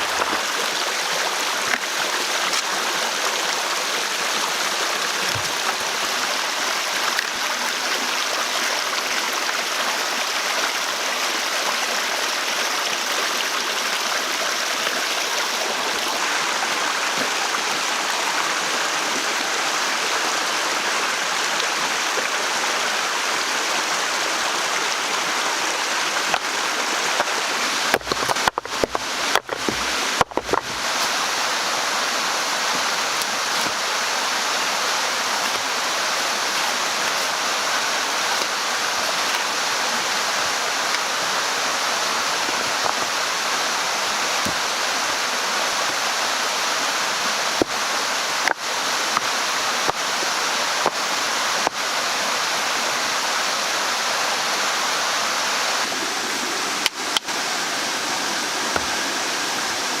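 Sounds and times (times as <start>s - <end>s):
flowing water rushing: 0.0s - 60.0s.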